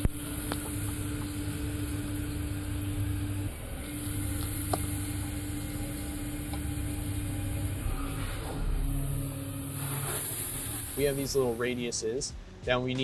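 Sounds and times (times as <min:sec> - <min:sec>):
coolant hiss: 0:00.0 - 0:12.4
spindle hum with steady tone: 0:00.0 - 0:12.9.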